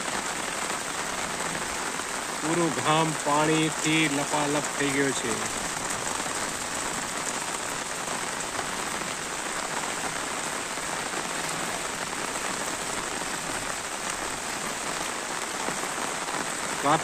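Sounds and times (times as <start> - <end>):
heavy rain on a flooded street: 0.0 - 17.0.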